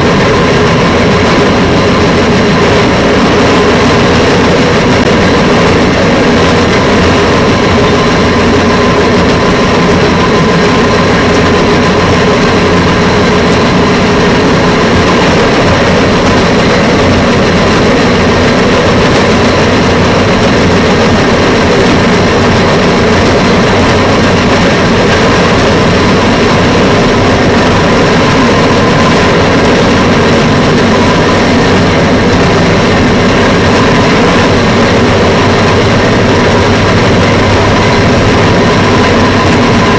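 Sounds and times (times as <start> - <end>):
rail vehicle engine droning: 0.0 - 39.9
train running noise on track: 0.0 - 39.9.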